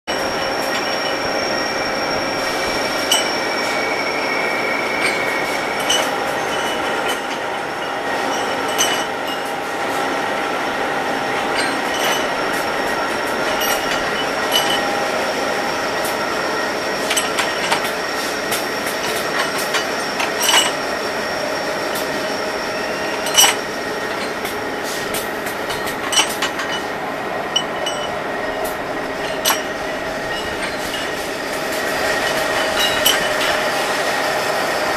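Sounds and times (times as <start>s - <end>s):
metal rods clanking on rail: 0.1s - 3.9s, 4.8s - 10.1s, 11.2s - 21.0s, 21.9s - 34.2s
machinery whine and hum: 0.1s - 34.9s.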